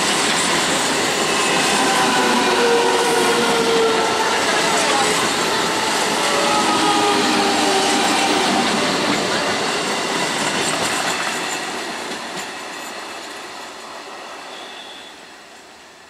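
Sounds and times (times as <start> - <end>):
train wheels rumbling over rails: 0.0 - 15.0.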